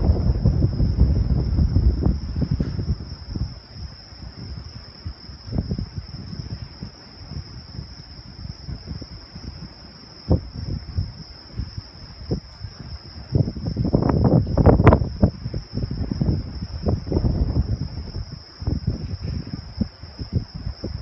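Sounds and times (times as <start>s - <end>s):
crickets chirping: 0.0s - 21.0s
low rumbling gusts: 0.0s - 21.0s.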